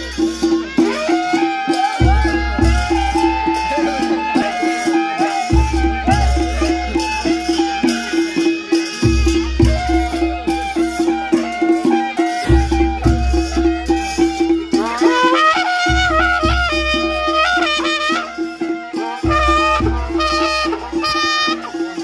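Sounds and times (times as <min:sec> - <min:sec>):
drums and cymbals: 0:00.0 - 0:22.0
wavering reed melody: 0:00.0 - 0:22.0.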